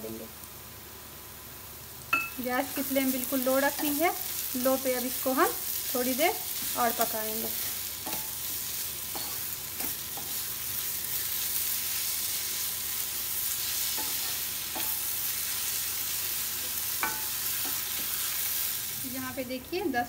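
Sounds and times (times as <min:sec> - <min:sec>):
food sizzling in pot: 0:00.0 - 0:20.0.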